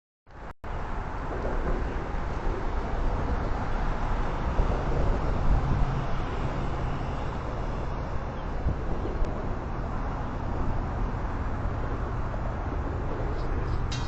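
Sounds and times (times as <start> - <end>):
faint engine hum: 0.7 - 14.0
freight train rumbling: 0.8 - 14.0.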